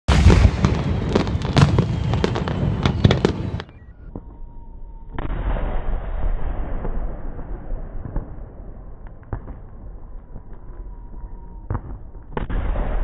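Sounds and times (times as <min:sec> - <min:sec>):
fireworks bangs and crackles: 0:00.1 - 0:13.0.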